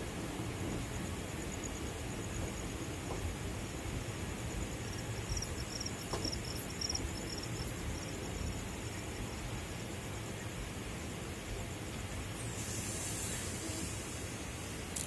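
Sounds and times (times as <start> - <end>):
crickets chirping: 0.0 - 15.0
low rumble and hiss: 0.0 - 15.0.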